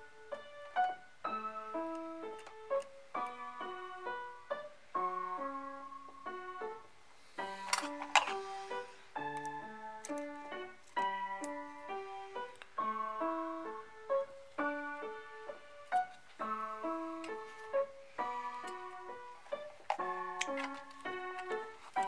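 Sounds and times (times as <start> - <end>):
keyboard music: 0.0 - 22.0.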